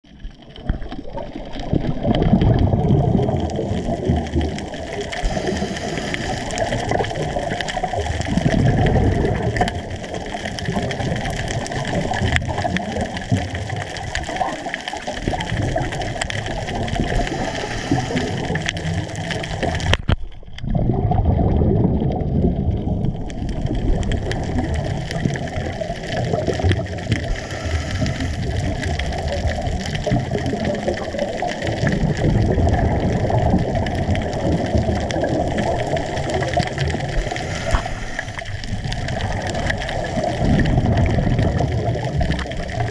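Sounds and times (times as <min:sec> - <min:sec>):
scuba regulator bubbles gurgling: 0:00.0 - 0:42.9
low rush of water: 0:00.4 - 0:42.9.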